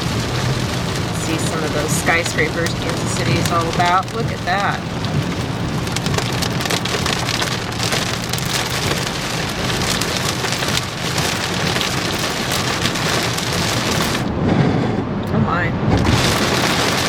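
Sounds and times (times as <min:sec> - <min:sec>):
heavy rain on vehicle: 0:00.0 - 0:17.0
low road rumble: 0:00.0 - 0:17.0.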